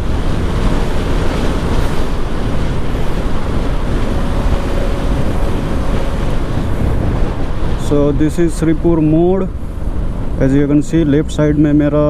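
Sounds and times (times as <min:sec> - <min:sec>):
wind rushing over helmet: 0:00.0 - 0:10.8.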